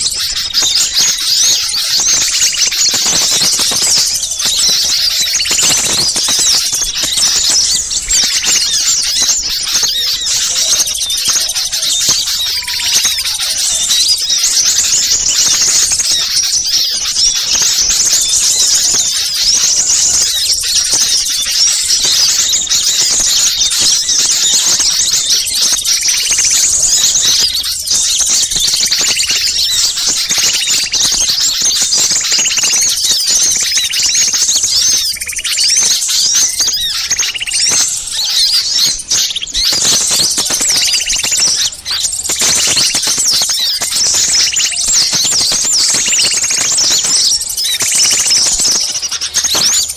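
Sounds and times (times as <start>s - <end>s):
small birds chirping chorus: 0.0s - 49.9s.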